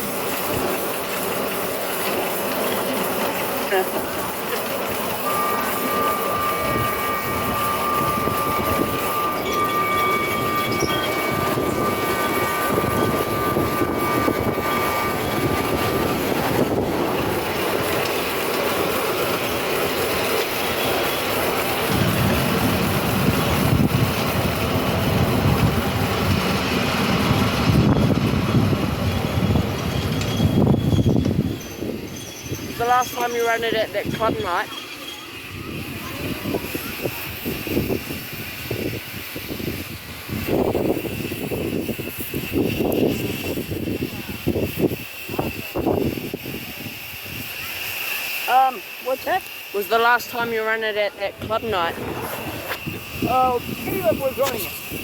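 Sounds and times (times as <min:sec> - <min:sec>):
high-pitched whine: 0:00.0 - 0:55.0
miniature train running on track: 0:00.0 - 0:55.0.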